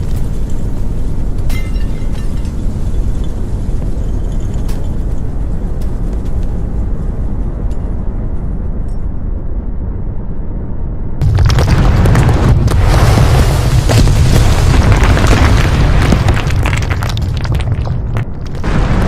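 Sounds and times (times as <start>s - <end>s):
deep rumbling: 0.0s - 19.0s.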